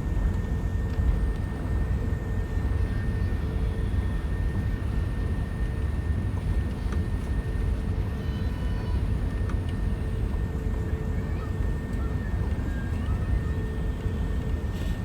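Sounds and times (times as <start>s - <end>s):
deep engine and rolling rumble: 0.0s - 15.0s.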